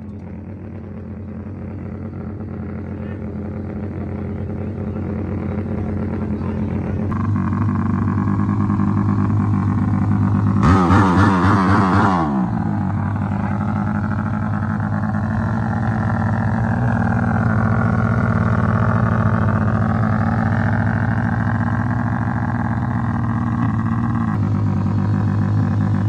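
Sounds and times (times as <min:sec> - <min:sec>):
faint engine rising and falling: 0:00.0 - 0:26.0
motorcycle engine revving: 0:00.0 - 0:26.0
motorcycle engines idling: 0:00.0 - 0:26.0.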